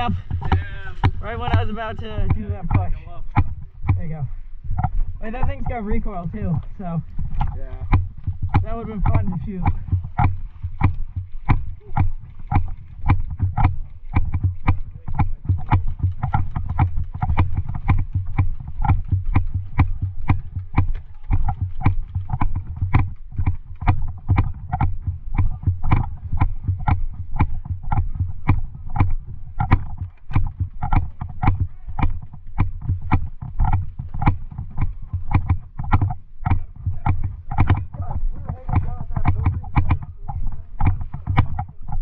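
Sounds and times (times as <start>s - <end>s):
footsteps thudding: 0.0s - 42.0s
low microphone rumble: 0.0s - 42.0s.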